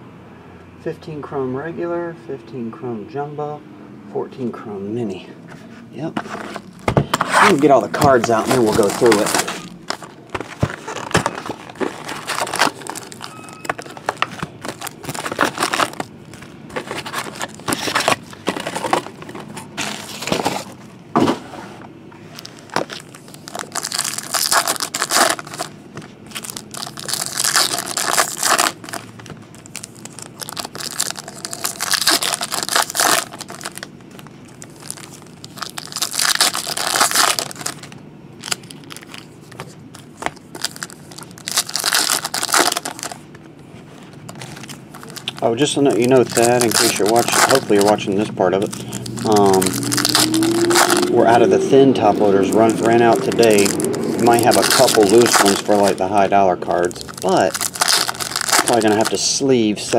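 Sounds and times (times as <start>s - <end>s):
foil wrappers crinkling and tearing: 6.3s - 20.7s, 22.3s - 51.4s, 52.0s - 59.9s.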